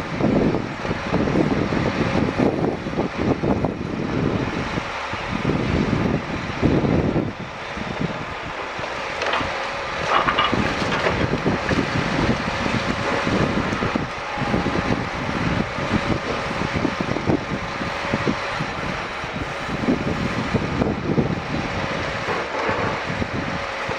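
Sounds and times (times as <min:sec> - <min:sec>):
diesel truck engine running: 0:00.0 - 0:23.9.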